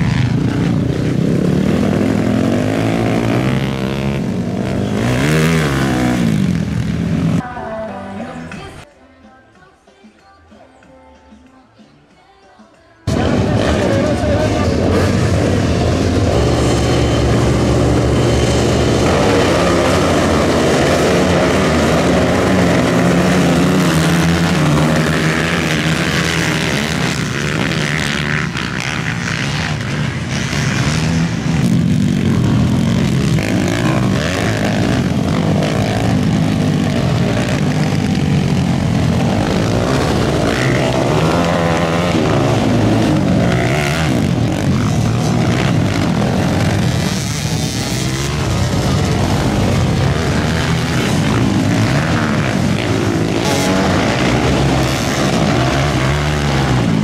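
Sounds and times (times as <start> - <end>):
quad engines revving: 0.0 - 7.4, 13.1 - 57.0.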